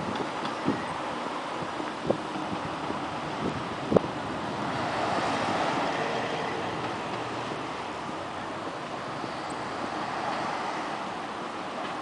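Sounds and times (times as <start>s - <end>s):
wind on microphone: 0.0s - 11.7s
road traffic: 0.0s - 12.0s.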